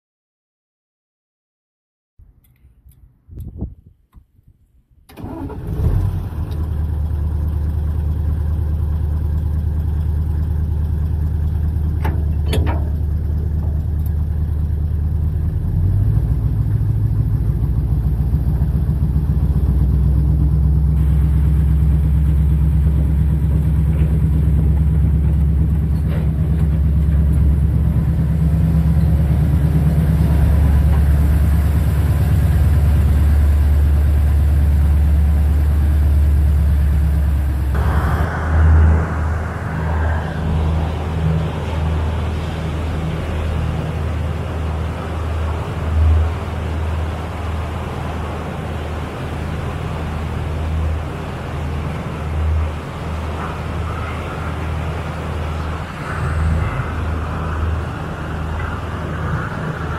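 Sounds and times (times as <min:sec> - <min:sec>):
diesel locomotive engine running: 0:05.1 - 0:59.9.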